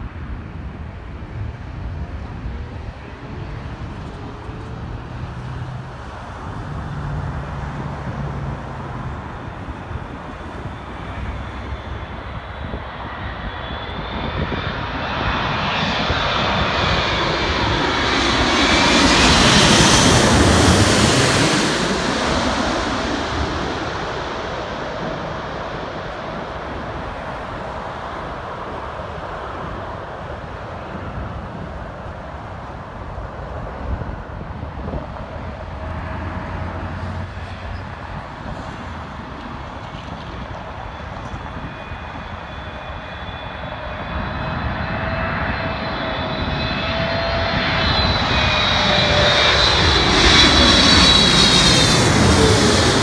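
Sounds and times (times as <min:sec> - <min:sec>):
jet engines passing overhead: 0:00.0 - 0:53.0.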